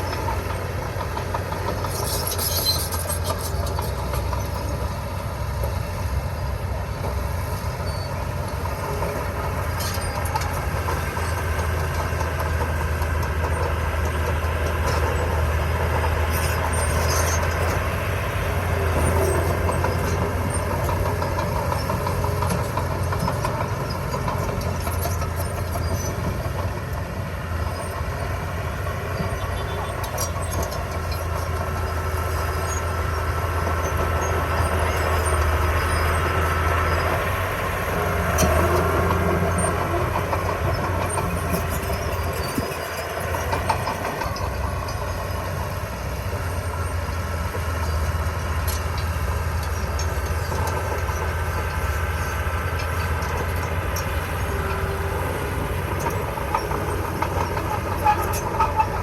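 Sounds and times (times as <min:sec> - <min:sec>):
bulldozer diesel engine running: 0:00.0 - 0:59.0
steel tracks clanking and squeaking: 0:00.0 - 0:59.0.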